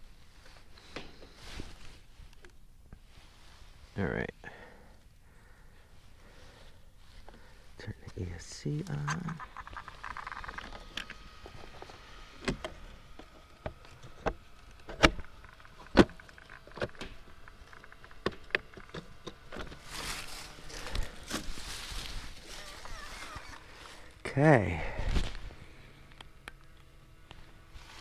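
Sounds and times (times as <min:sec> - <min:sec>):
rustling: 0:00.0 - 0:24.3, 0:24.9 - 0:28.0.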